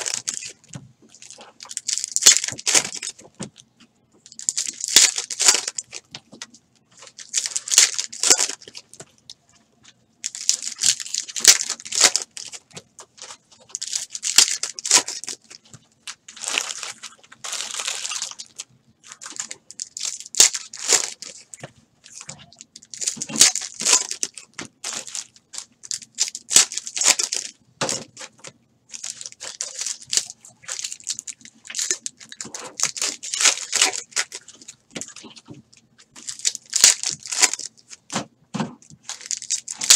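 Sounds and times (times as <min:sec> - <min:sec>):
wrappers tearing and crinkling: 0:00.0 - 0:03.3, 0:04.2 - 0:09.0, 0:10.2 - 0:38.1, 0:38.8 - 0:39.9.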